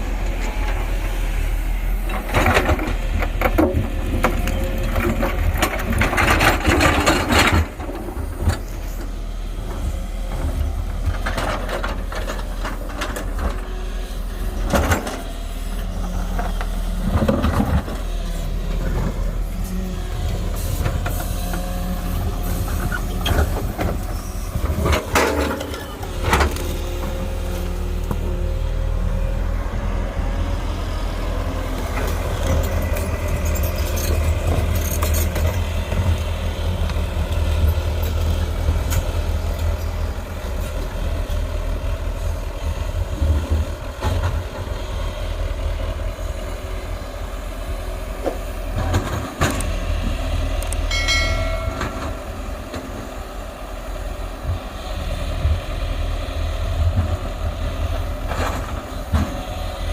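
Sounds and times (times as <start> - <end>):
excavator diesel engine droning: 0.0 - 59.9.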